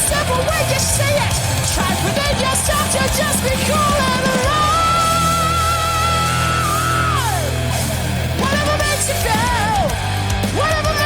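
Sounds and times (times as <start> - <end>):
rock song with singing: 0.0 - 11.0.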